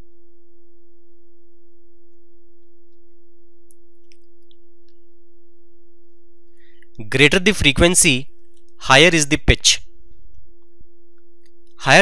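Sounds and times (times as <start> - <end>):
steady electronic sine tone: 0.0 - 12.0.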